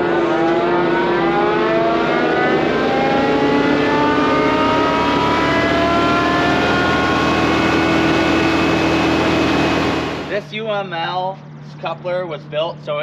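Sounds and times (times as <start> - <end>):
mulcher rotor whine: 0.0 - 10.6.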